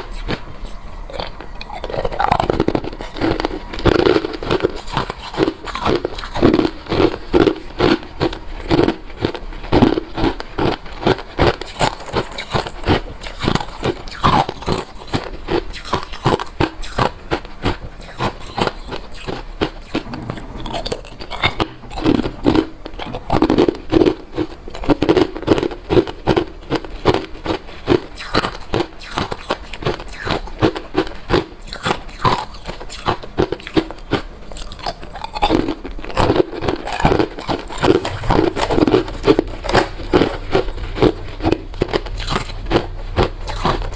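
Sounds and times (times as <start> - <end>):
chewing crushed ice: 0.0 - 43.9.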